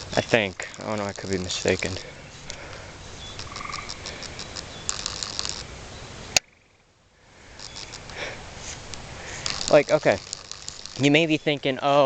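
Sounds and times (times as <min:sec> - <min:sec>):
steady hiss: 0:00.0 - 0:06.4, 0:07.0 - 0:12.0
night insects ticking: 0:00.0 - 0:12.0.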